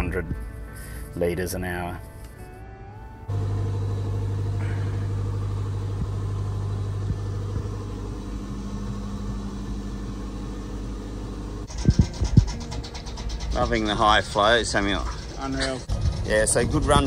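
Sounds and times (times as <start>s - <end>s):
engine room machinery humming: 3.2s - 17.0s.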